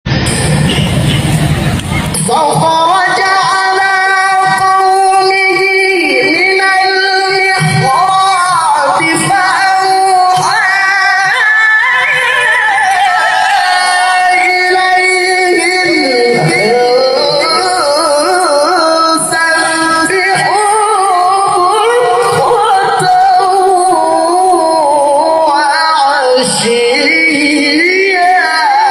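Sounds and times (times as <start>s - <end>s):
man reciting in melismatic chant: 2.1s - 28.9s.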